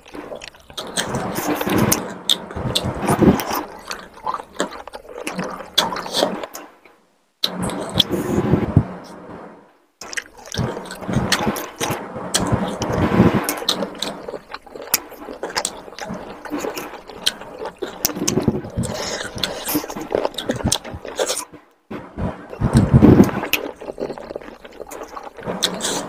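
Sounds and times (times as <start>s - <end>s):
person chewing with wet mouth noises: 0.0s - 6.6s, 7.4s - 8.4s, 10.0s - 26.0s
sharp mouth clicks: 0.0s - 6.6s, 10.0s - 21.6s, 22.5s - 26.0s.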